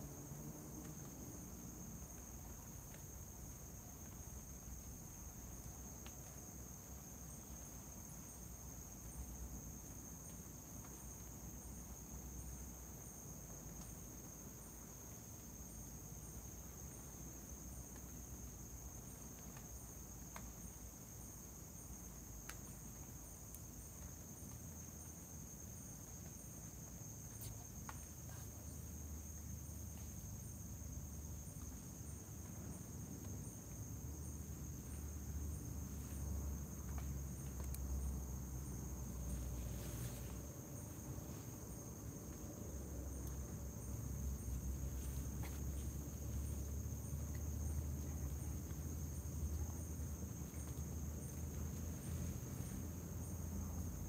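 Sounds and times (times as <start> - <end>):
crickets trilling: 0.0 - 54.0
faint clicks and rustles: 0.7 - 53.8.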